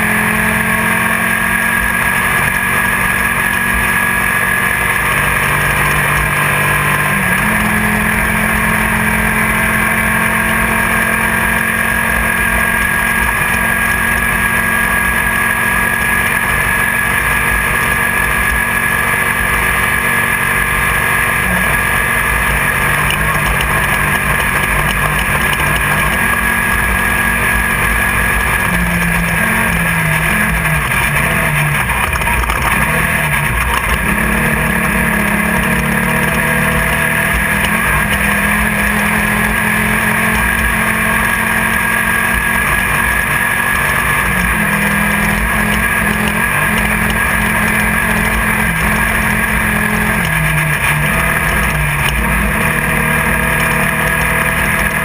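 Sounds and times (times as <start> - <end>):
buggy engine running hard: 0.0 - 55.0.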